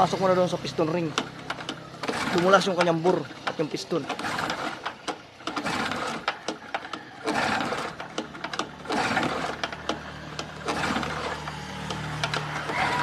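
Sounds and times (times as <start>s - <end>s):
recoil starter pull whirring: 0.0s - 13.0s.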